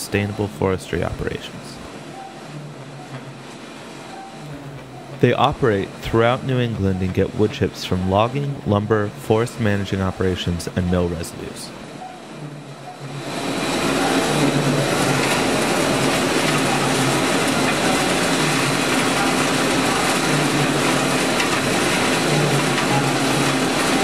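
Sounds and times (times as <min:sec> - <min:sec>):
boiler plant machinery rush: 0:00.0 - 0:24.0
low machinery hum: 0:00.0 - 0:24.0.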